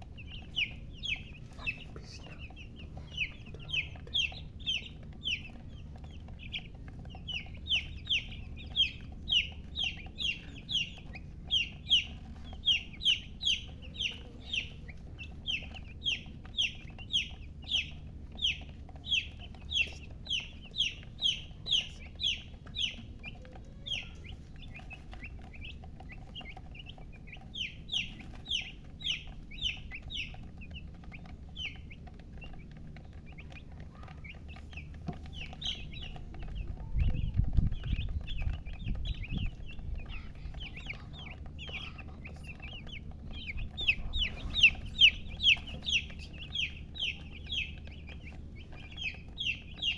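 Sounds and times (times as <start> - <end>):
baby chicks peeping: 0.0 - 49.9.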